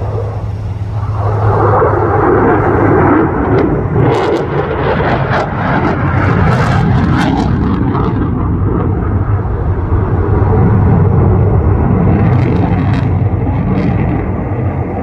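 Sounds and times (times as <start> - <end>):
fighter jet flying past: 0.0 - 15.0.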